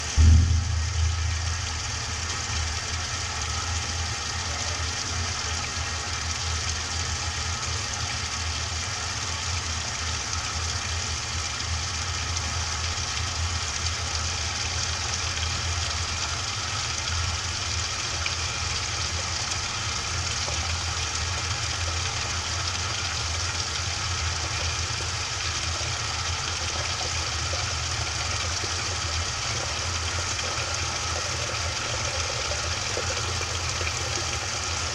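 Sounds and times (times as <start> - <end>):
washing machine running: 0.0 - 34.9.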